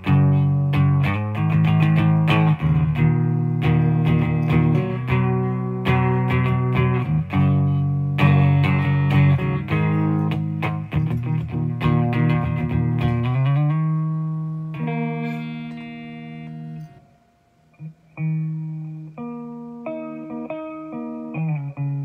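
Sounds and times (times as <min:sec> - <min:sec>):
electric guitar chords: 0:00.0 - 0:22.0.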